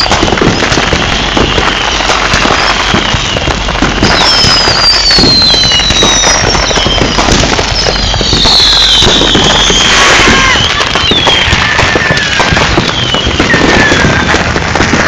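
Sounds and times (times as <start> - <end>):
firework whistles gliding down: 0.0 - 15.0
fireworks crackling: 0.0 - 15.0.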